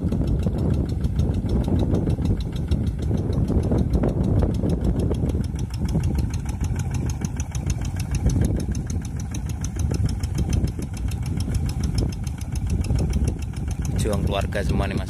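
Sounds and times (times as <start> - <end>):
fast even ticking: 0.0 - 15.0
hand tractor engine running: 0.0 - 15.0.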